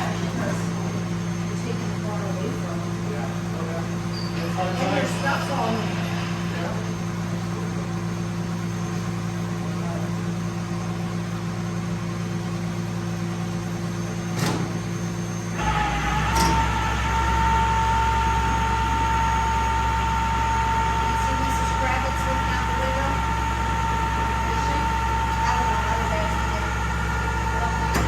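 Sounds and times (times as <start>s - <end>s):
deeper engine rumble: 0.0s - 28.0s
steady high whine: 0.0s - 28.0s
vehicle engine humming: 0.0s - 28.0s.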